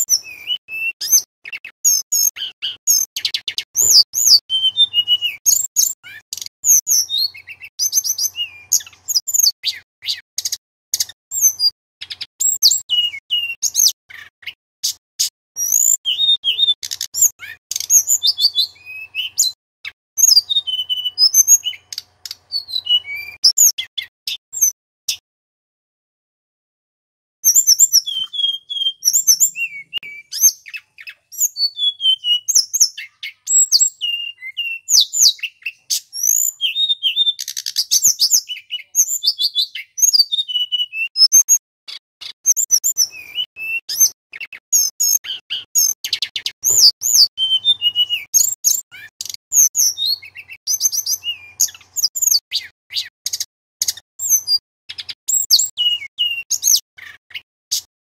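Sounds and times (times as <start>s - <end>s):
flycatcher singing whistled trills: 0.0s - 14.0s, 20.2s - 24.8s, 27.5s - 41.6s, 42.5s - 56.8s.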